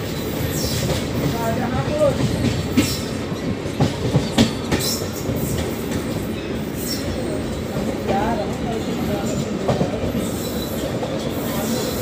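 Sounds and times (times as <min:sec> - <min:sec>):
train coach rumbling: 0:00.0 - 0:12.0.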